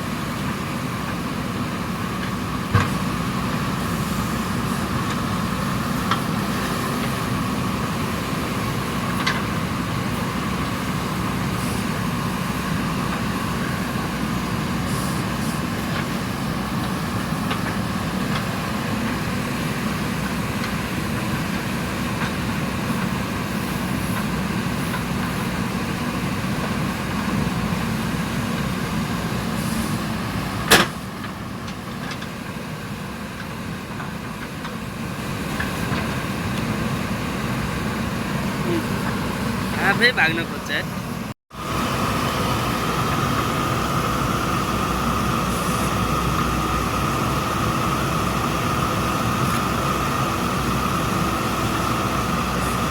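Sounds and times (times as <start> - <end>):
backhoe diesel engine running: 0.0 - 52.9.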